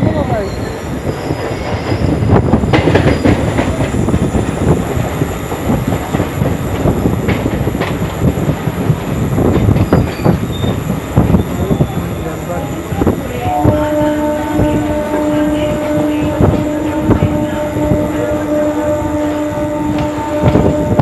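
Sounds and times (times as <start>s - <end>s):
train rumble inside coach: 0.0s - 21.0s.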